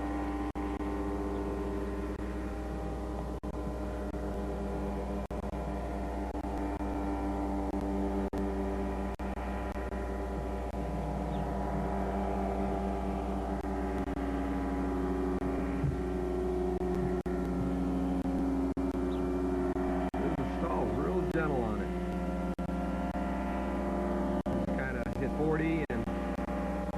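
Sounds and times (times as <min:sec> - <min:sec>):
aircraft engine droning: 0:00.0 - 0:26.9.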